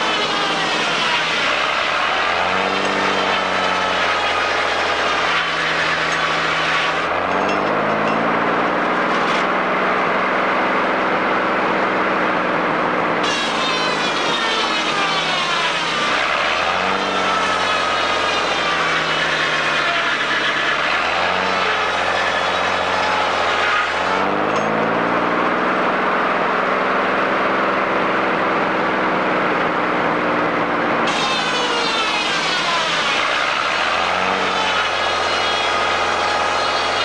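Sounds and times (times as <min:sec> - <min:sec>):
mill engine running: 0:00.0 - 0:37.0
sawmill saw whining through log: 0:00.0 - 0:37.0.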